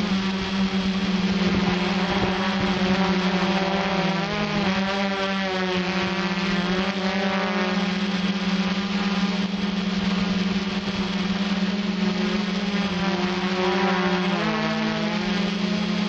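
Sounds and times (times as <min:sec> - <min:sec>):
quadcopter propellers humming: 0:00.0 - 0:16.0.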